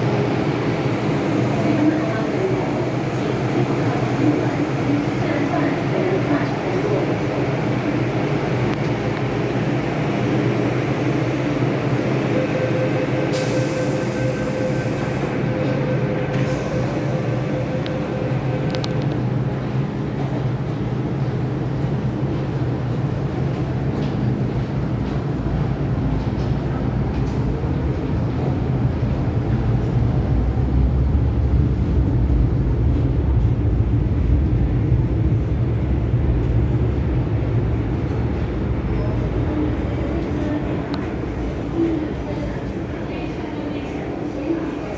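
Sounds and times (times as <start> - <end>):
metro train rumbling on track: 0.0 - 44.9
train whine: 0.0 - 44.9.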